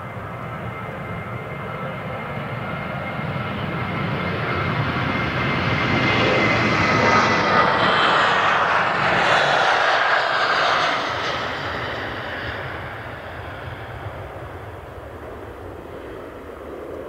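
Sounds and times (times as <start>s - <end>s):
jet airliner engines roaring: 0.0s - 17.0s.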